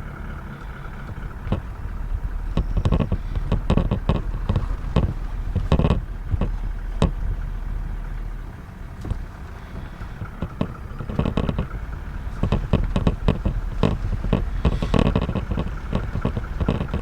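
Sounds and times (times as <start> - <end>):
engine idling hum: 0.0 - 17.0
sharp clicks and knocks: 0.6 - 17.0.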